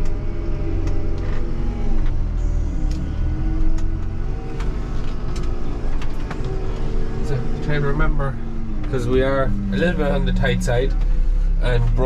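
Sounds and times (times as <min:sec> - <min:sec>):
loader engine rumbling: 0:00.0 - 0:12.0.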